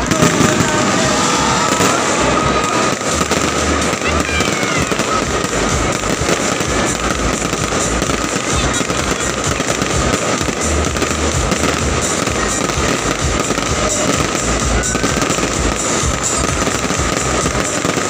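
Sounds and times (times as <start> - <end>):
fireworks bursting and crackling: 0.0 - 18.0
music playing: 0.0 - 18.0.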